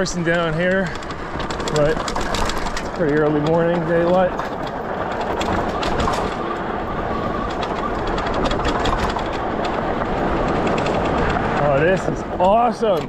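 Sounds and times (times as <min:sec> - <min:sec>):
bike tires rolling on gravel: 0:00.0 - 0:13.0
small clicks and rattles: 0:00.0 - 0:13.0
wind rushing over microphone: 0:00.0 - 0:13.0.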